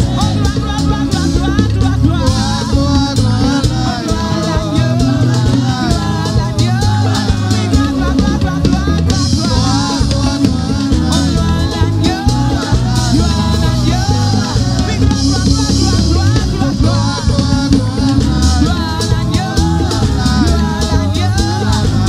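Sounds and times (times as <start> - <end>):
band with drums: 0.0 - 22.0
church choir singing: 0.0 - 22.0
lead singer with microphone: 0.0 - 22.0.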